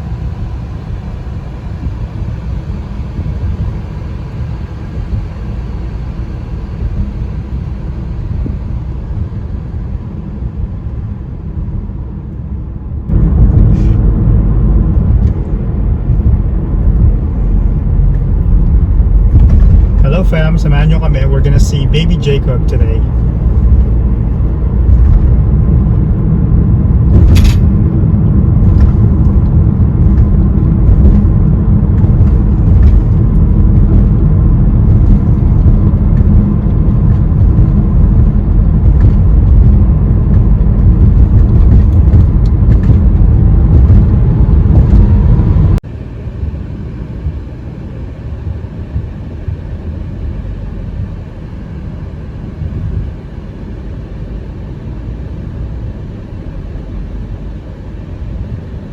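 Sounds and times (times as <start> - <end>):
car road rumble from inside: 0.0 - 58.9.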